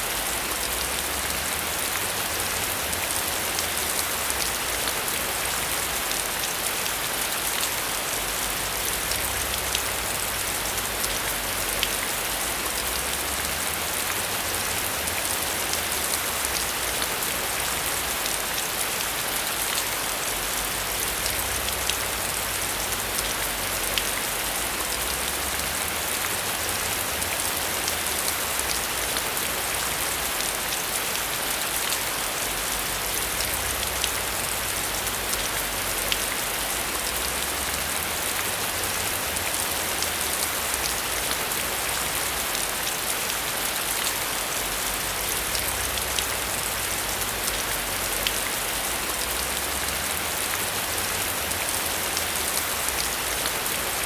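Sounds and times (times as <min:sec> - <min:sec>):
rain drops ticking: 0:00.0 - 0:54.0.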